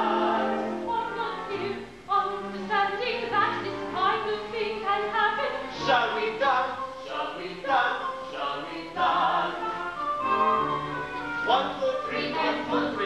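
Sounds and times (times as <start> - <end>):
musical accompaniment: 0.0 - 13.0.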